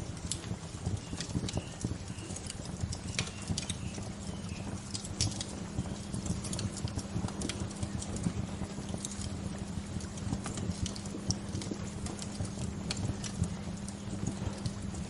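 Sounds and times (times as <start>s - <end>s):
campfire crackling: 0.0s - 15.0s
fire pops and snaps: 0.0s - 15.0s
low rumble of burning fire: 0.0s - 15.0s.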